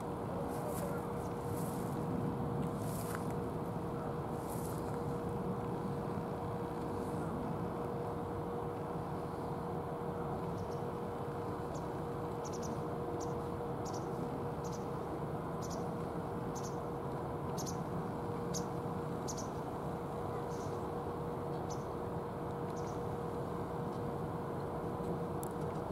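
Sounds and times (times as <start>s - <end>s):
faint hum: 0.0s - 25.9s.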